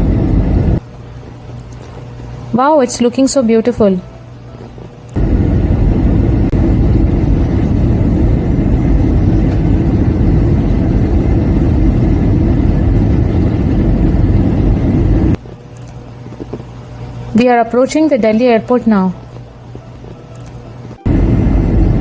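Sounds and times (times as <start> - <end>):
jet cabin engine noise: 0.0 - 1.4, 2.2 - 22.0.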